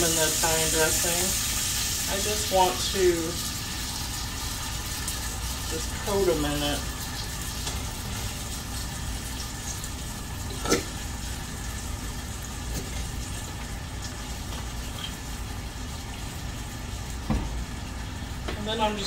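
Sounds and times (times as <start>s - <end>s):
patties sizzling in a pan: 0.0s - 19.0s.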